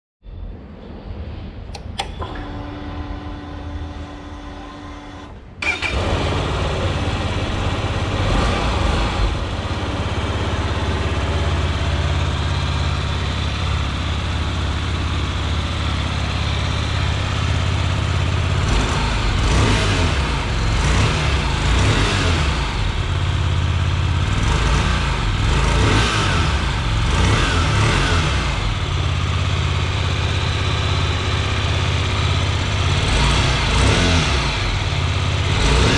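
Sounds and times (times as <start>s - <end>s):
motorcycle engine idling and revving: 1.7s - 35.9s.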